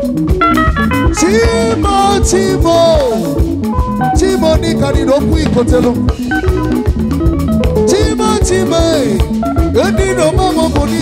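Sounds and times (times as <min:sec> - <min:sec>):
drum kit: 0:00.0 - 0:11.0
electric guitars: 0:00.0 - 0:11.0
electronic keyboard: 0:00.0 - 0:11.0.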